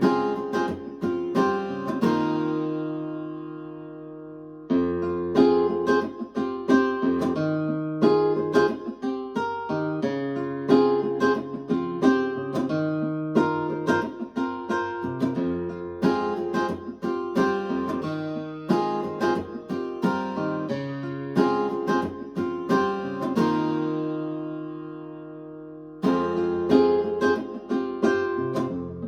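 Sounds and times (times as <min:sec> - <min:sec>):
acoustic guitar plucked notes: 0:00.0 - 0:29.0.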